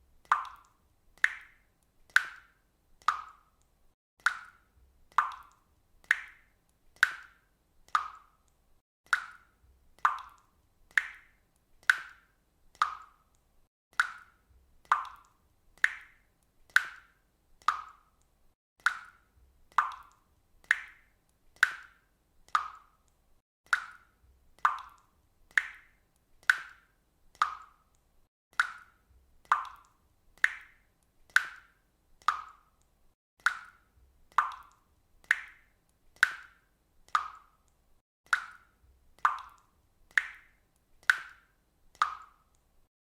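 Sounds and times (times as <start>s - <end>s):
water dripping into water: 0.0s - 42.9s.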